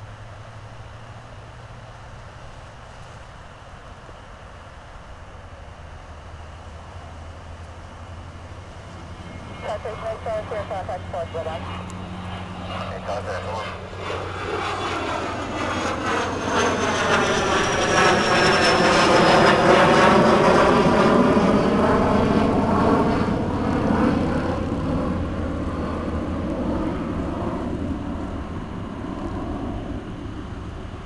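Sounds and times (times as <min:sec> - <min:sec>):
jet climbing overhead: 0:01.8 - 0:31.0.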